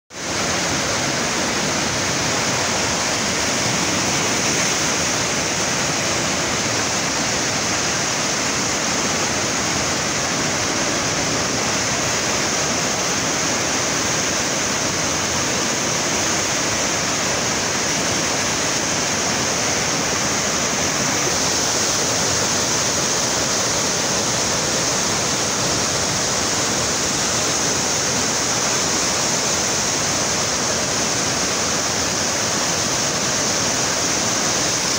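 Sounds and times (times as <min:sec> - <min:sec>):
river torrent rushing: 0:00.1 - 0:34.9.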